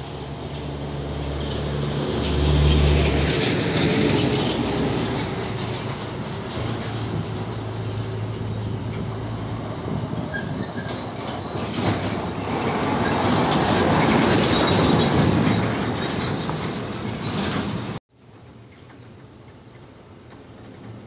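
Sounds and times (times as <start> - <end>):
distant truck approaching: 0.0 - 18.0
truck driving past: 0.0 - 18.0.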